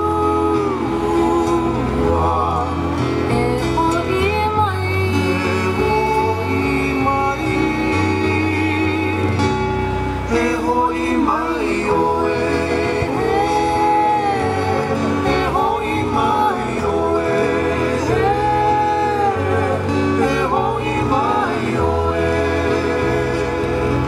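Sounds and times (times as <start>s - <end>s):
bass line: 0.0s - 24.0s
ukulele and guitar strumming: 0.0s - 24.0s.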